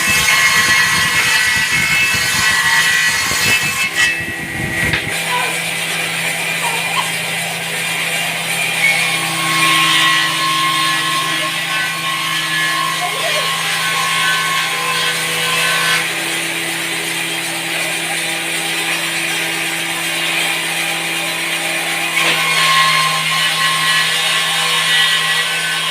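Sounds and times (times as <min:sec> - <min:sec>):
electric table saw running: 0:00.0 - 0:25.9.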